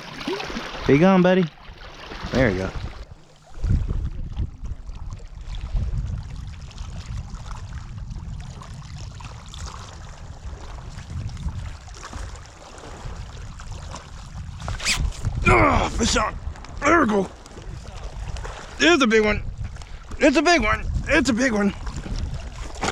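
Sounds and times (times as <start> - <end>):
water lapping at hull: 0.0 - 22.9
wind buffeting microphone: 2.2 - 22.9.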